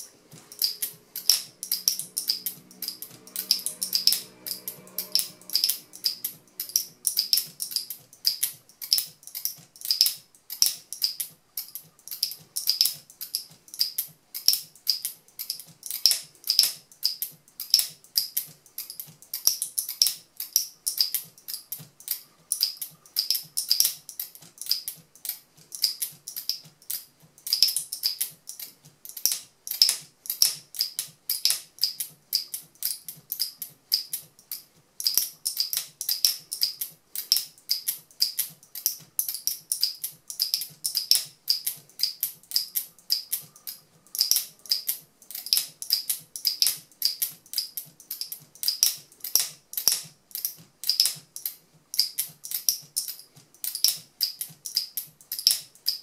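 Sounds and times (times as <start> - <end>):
locking mechanism clicking: 0.0 - 56.0.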